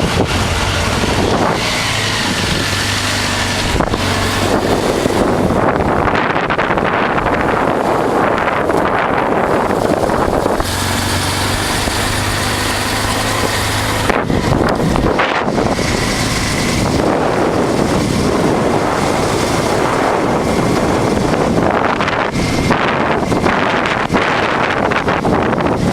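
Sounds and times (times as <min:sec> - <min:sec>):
motorcycle engine hum: 0:00.0 - 0:25.9
wind rushing over microphone: 0:00.0 - 0:25.9.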